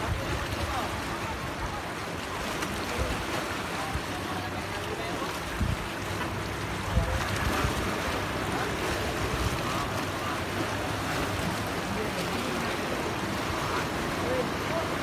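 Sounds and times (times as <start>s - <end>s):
sea waves splashing against rocks: 0.0s - 15.0s
wind rumbling on microphone: 0.0s - 15.0s.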